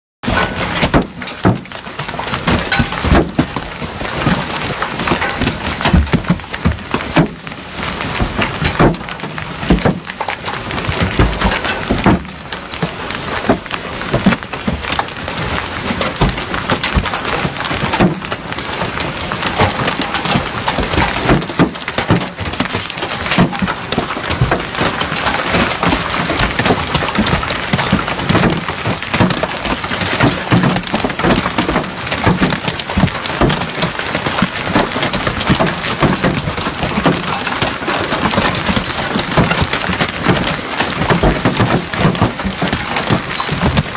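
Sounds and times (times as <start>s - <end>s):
hailstones clattering: 0.2s - 43.9s
steady rush of rain: 0.2s - 43.9s.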